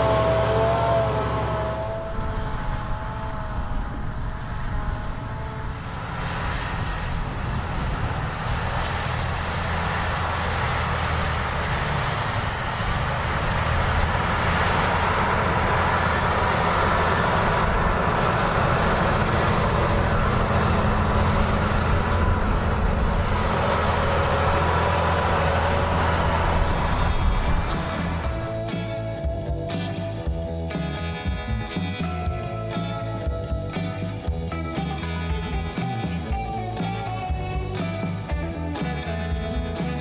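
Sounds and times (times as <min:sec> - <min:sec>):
tractor diesel engine under load: 0:00.0 - 0:40.0
wavering whine: 0:00.0 - 0:40.0.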